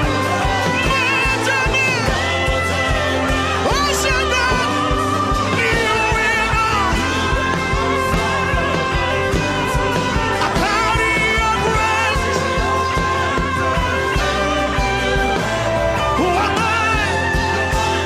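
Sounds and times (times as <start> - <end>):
person singing gospel song: 0.0 - 18.0
sustained bass notes: 0.0 - 18.0.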